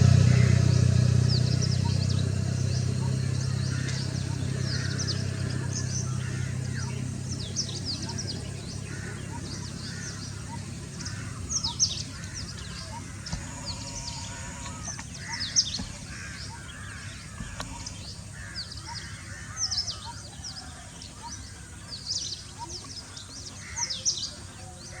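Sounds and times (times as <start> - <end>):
low steady rumble: 0.0 - 22.2.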